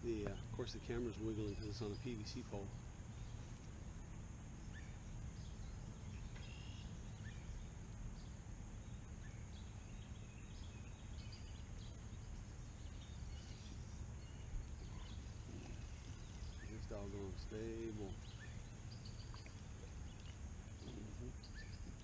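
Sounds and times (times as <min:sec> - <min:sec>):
bird chirps: 0:00.0 - 0:03.6, 0:04.6 - 0:22.0.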